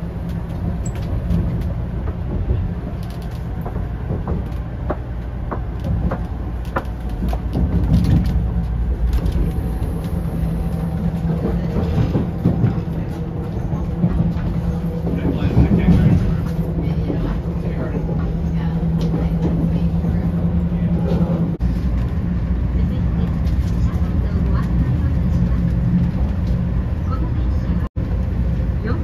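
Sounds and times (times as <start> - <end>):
train cabin rumble: 0.0 - 29.0.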